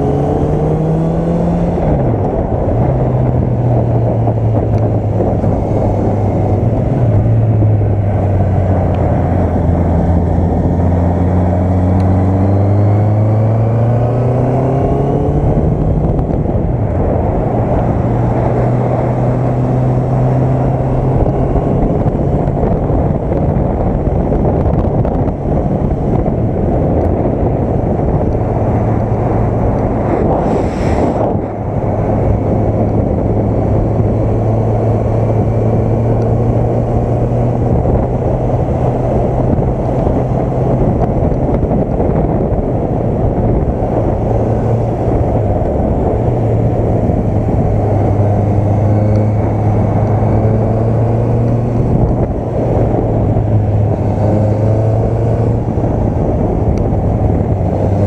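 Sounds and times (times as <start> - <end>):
rush of noise: 0.0 - 58.0
wind noise on microphone: 0.0 - 58.0.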